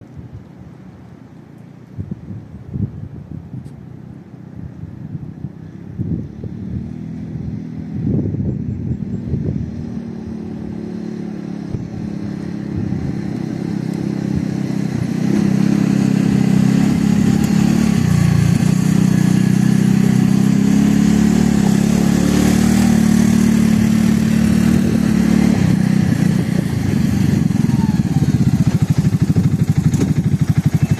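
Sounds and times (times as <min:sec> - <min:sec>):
atv engine running: 0:03.9 - 0:30.9.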